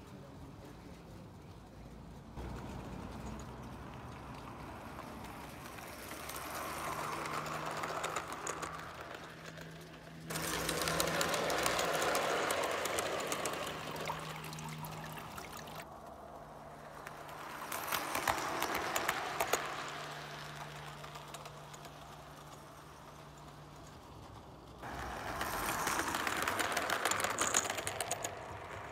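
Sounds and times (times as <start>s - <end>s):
model train wheels clicking: 0.1s - 28.9s.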